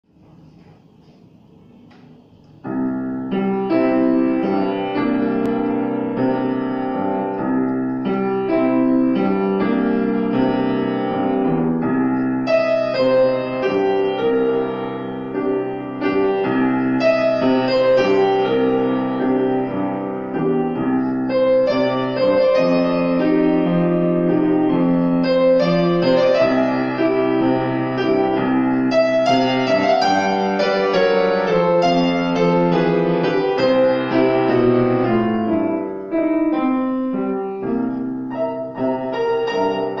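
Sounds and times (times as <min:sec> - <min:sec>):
grand piano playing: 0:02.6 - 0:40.0.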